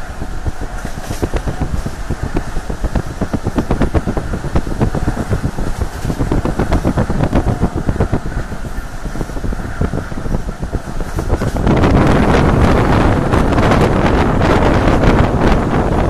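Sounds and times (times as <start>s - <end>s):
train clattering on track: 0.0s - 16.0s
wind buffeting microphone: 0.0s - 16.0s.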